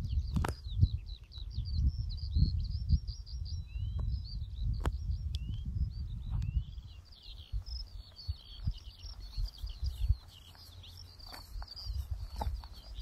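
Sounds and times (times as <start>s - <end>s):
high twittering birdsong: 0.0s - 13.0s
wind rumbling on microphone: 0.0s - 13.0s.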